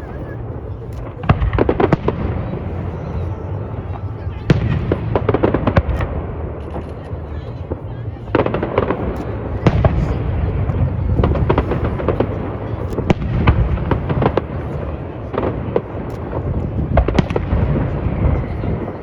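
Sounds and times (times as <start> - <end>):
continuous low rumble: 0.0 - 19.0
fireworks bangs and crackles: 0.0 - 19.0.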